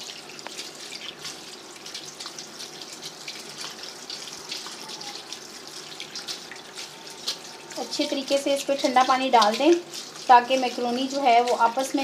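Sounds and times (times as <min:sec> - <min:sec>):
water pouring over pasta in colander: 0:00.0 - 0:12.0.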